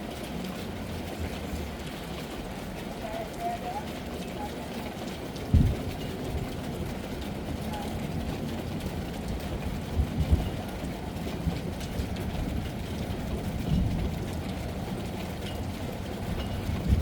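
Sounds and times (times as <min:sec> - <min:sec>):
heavy rain rumble: 0:00.0 - 0:17.0.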